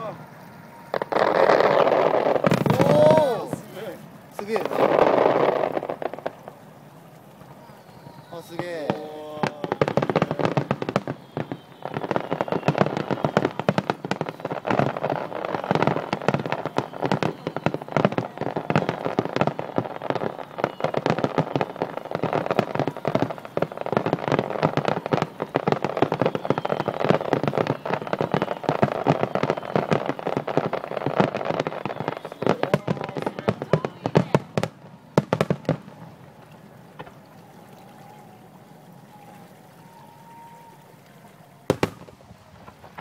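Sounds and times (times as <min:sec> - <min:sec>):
firework booms: 0:00.0 - 0:06.8, 0:07.6 - 0:40.6, 0:41.6 - 0:43.0
firework crackling: 0:00.0 - 0:43.0.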